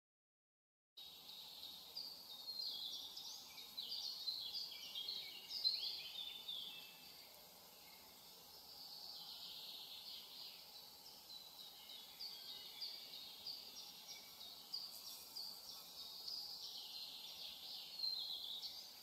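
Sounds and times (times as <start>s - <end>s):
small birds chirping: 1.0s - 19.0s
soft hiss: 1.0s - 19.0s.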